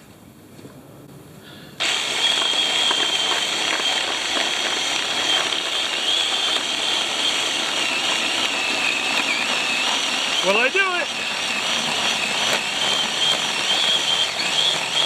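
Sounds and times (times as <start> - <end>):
battery chainsaw motor whine: 1.8 - 15.0.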